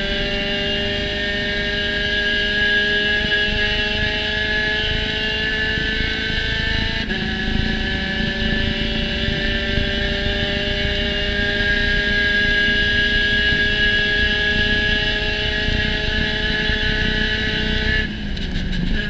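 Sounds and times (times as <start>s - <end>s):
race car engine at full throttle: 0.0s - 19.0s.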